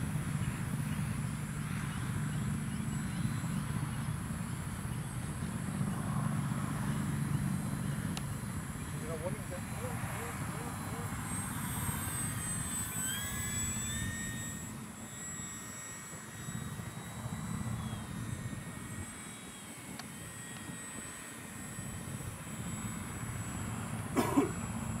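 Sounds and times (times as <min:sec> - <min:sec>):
model plane motor whine: 0:00.0 - 0:25.0
propeller air rush: 0:00.0 - 0:25.0.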